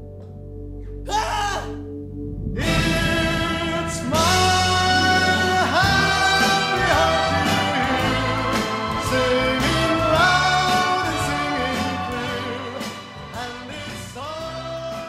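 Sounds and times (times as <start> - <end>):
musical accompaniment: 2.0 - 15.0
person singing: 2.6 - 15.0.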